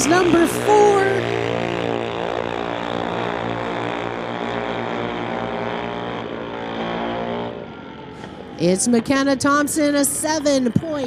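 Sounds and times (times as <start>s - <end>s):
dragster engines at full throttle: 0.0s - 11.0s.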